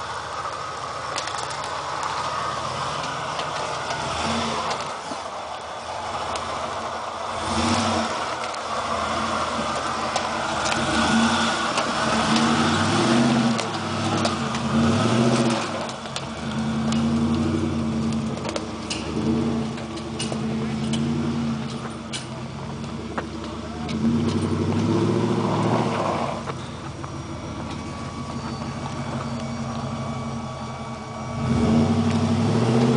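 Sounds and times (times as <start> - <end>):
truck engine revving: 0.0 - 32.9.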